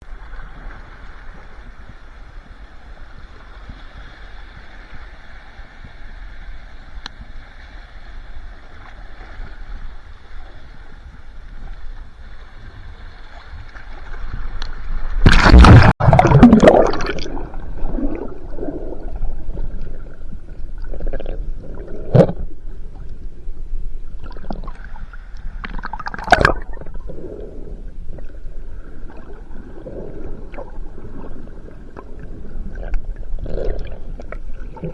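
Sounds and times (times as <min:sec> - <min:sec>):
muffled underwater water rushing: 0:00.0 - 0:34.9.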